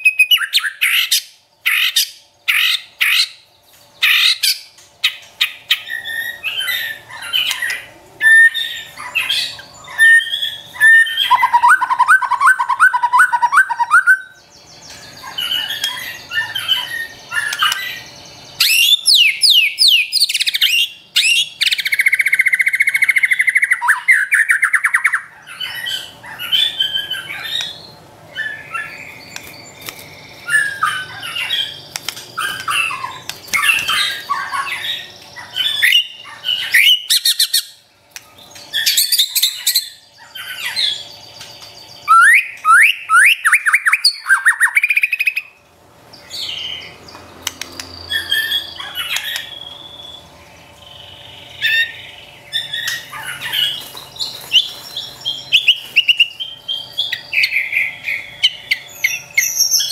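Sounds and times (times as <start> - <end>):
bird singing varied song: 0.0 - 59.9.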